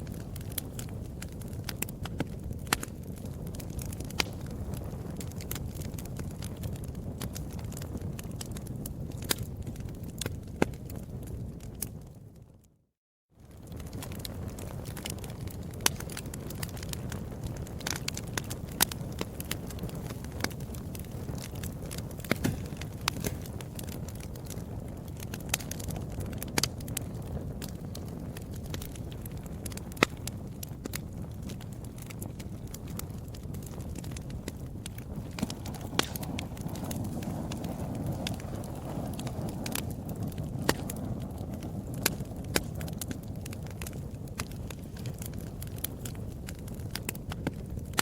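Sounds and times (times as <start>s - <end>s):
wood fire crackling: 0.0s - 12.7s, 13.4s - 48.0s.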